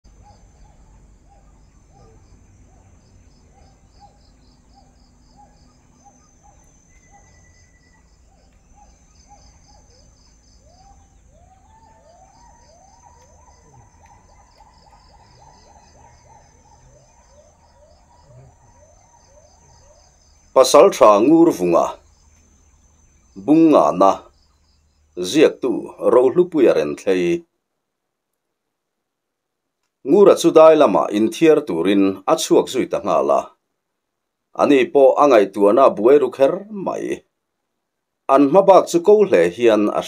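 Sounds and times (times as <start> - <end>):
insects trilling: 0.0 - 27.5, 30.1 - 33.6, 34.6 - 40.0.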